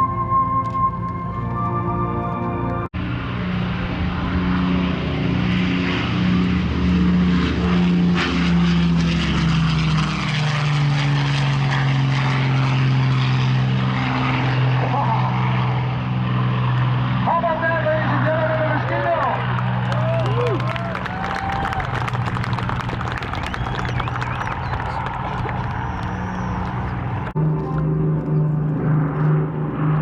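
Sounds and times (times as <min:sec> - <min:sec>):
propeller plane flying past: 0:00.0 - 0:30.0.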